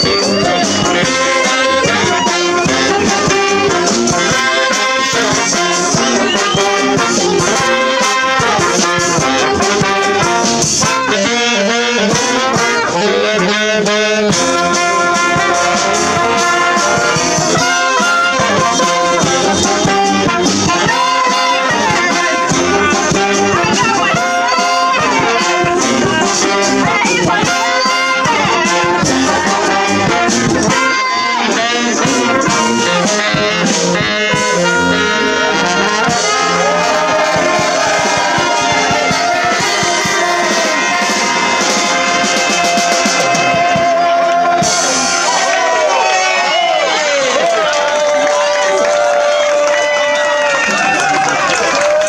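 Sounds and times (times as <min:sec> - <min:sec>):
brass band playing: 0:00.0 - 0:52.0.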